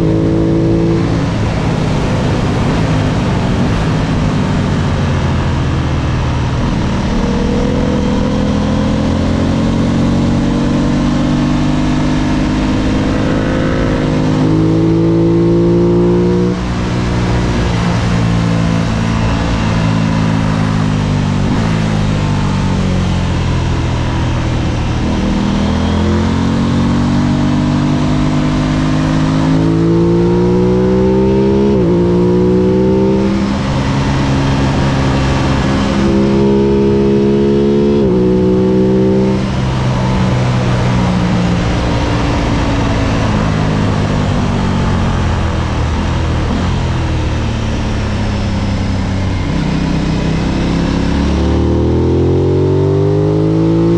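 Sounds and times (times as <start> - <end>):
steady rushing noise: 0.0 - 52.8
motorcycle engine accelerating: 0.0 - 53.9.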